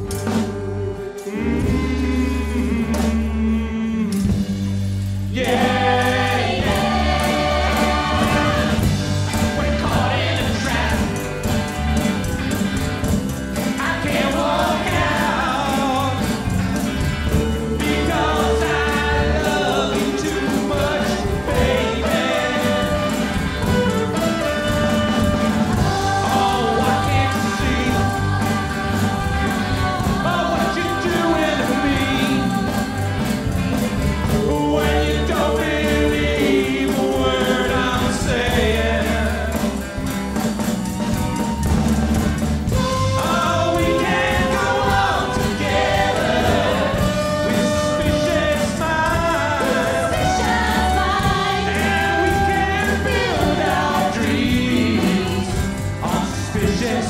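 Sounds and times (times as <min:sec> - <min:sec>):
people singing together: 0:00.0 - 0:04.6, 0:05.3 - 0:57.0
live band playing: 0:00.0 - 0:57.0.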